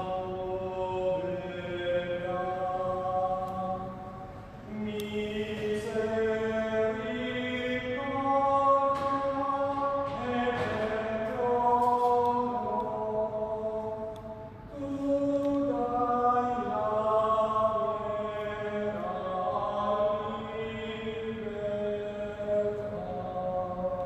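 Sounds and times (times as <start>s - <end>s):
slow sacred chant: 0.0s - 24.0s.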